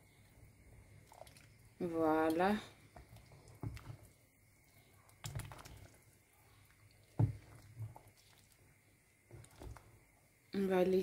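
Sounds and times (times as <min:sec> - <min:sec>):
ladle stirring broth: 0:00.6 - 0:10.2.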